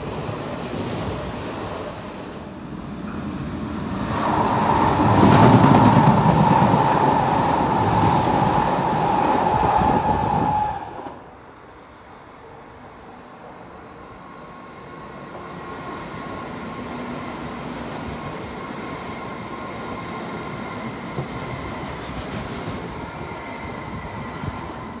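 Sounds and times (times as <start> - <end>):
train wheel-on-rail rumble: 0.0 - 25.0.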